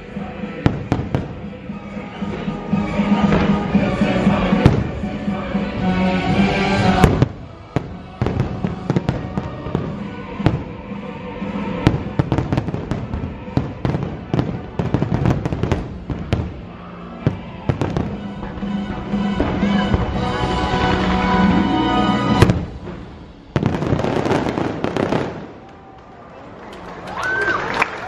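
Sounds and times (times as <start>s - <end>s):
show music: 0.0s - 25.7s
fireworks bangs and crackling: 0.0s - 26.0s.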